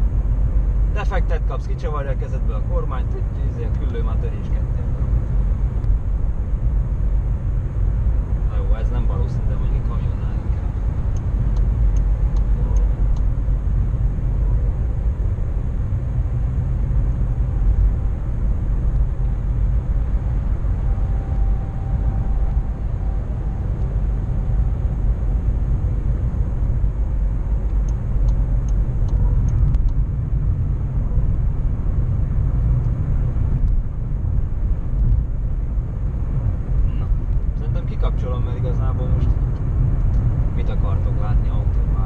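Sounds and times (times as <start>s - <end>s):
car cabin road rumble: 0.0s - 42.0s.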